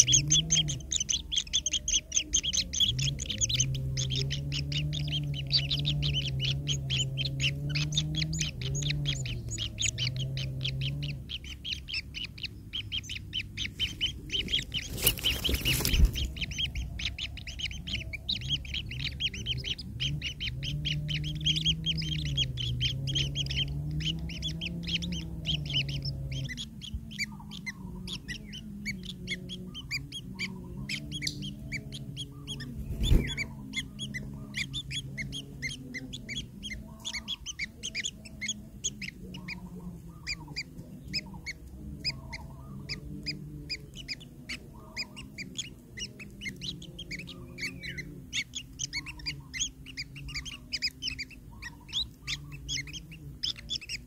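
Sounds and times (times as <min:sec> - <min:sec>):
low wavering drone: 0:00.0 - 0:54.0
nestlings chirping: 0:00.0 - 0:54.0.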